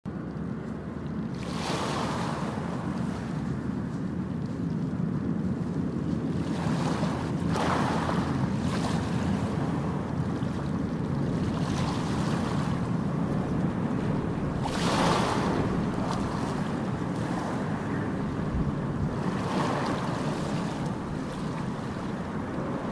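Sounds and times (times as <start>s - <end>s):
steady rushing noise: 0.1s - 22.9s.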